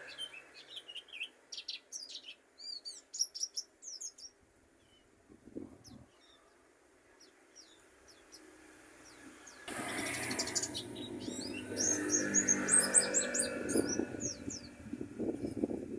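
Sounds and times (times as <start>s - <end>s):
bird singing high chirps: 0.0s - 5.1s, 7.2s - 15.6s.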